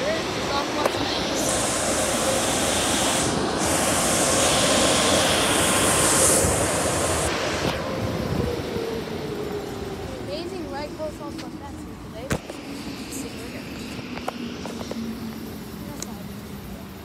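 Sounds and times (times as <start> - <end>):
car wash spray hissing: 0.0 - 17.0.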